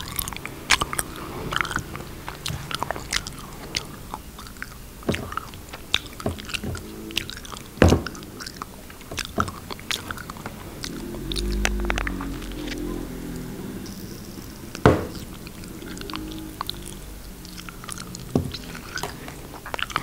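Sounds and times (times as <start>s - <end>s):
wet chewing mouth sounds: 0.0s - 20.0s.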